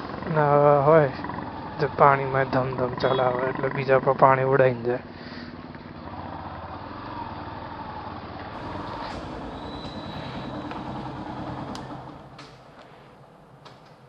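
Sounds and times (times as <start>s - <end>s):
motorcycle engine rumble: 0.0s - 14.0s
road and wind noise: 0.0s - 14.0s.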